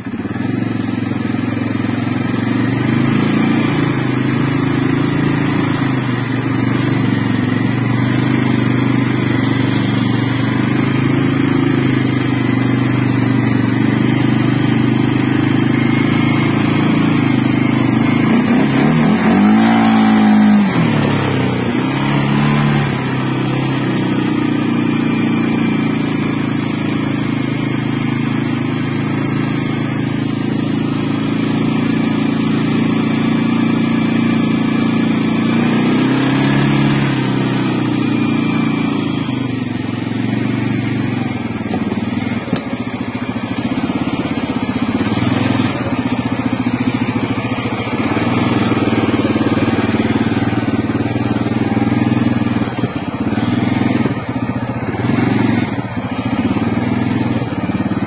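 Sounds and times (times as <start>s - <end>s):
atv engine running: 0.0s - 58.0s
engine revving: 0.0s - 58.0s.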